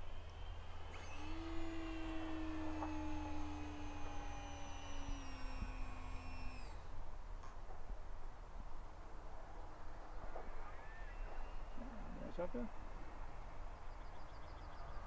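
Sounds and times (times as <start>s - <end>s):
electric motor and propeller whine: 0.0s - 7.7s, 9.7s - 15.0s.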